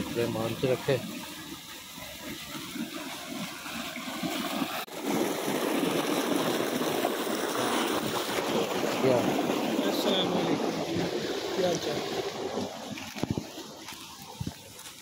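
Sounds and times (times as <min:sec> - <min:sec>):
irrigation water running: 0:00.0 - 0:15.0.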